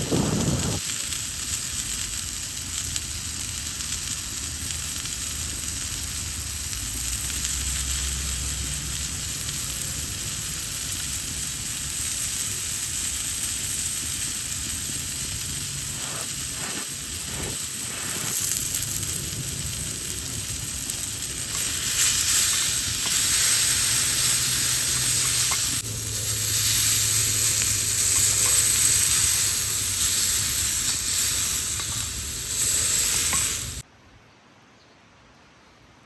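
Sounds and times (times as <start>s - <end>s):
loud sizzling hiss: 0.0s - 33.9s.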